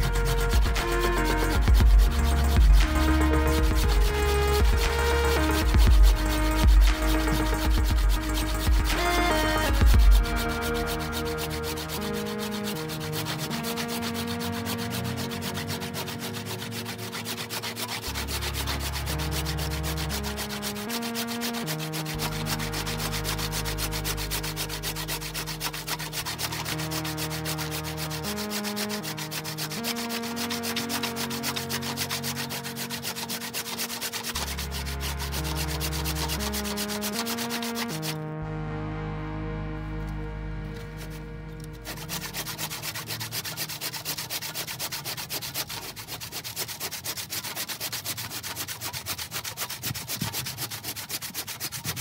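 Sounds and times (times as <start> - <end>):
wood being sanded: 0.0 - 38.4, 40.0 - 52.0
background music with bass line: 0.0 - 46.1.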